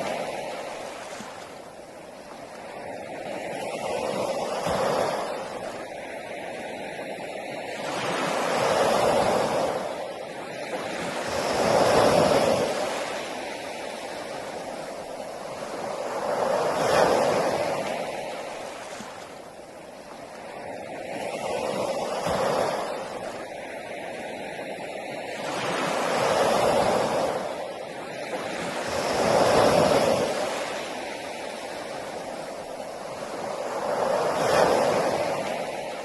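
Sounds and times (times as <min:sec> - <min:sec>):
sea waves breaking on a beach: 0:00.0 - 0:36.0.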